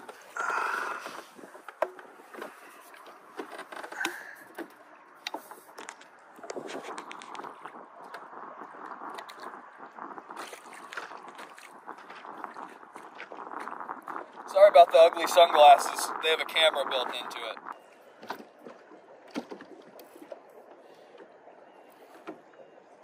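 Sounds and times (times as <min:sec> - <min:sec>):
waves lapping against boat hull: 0:00.0 - 0:23.0.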